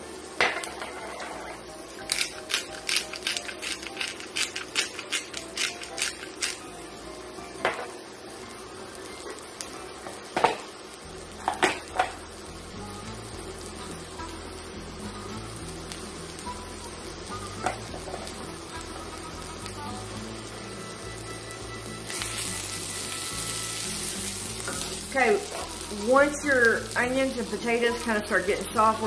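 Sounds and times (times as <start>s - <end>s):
potato and onion sizzling in oil: 0.0s - 29.0s.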